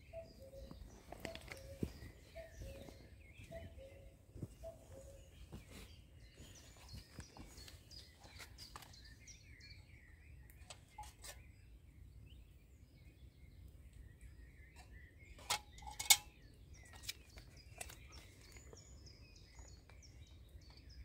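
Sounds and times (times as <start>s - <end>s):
faint birdsong: 0.0s - 21.0s.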